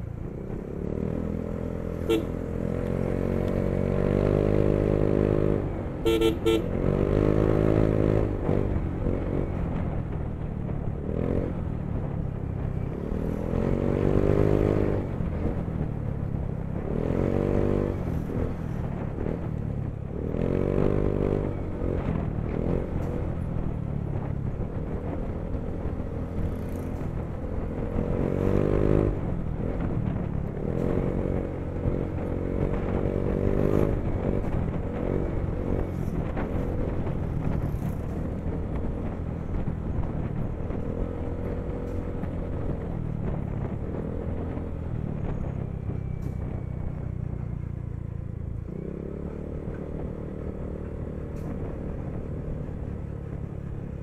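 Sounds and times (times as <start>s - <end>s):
road rumble: 0.0s - 54.0s
wind: 0.0s - 54.0s.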